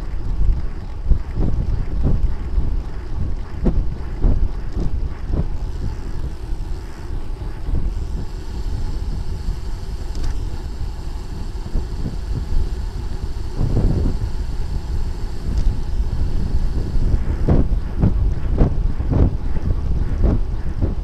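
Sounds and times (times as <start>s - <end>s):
road noise: 0.0s - 20.6s
wind buffeting microphone: 0.0s - 21.0s.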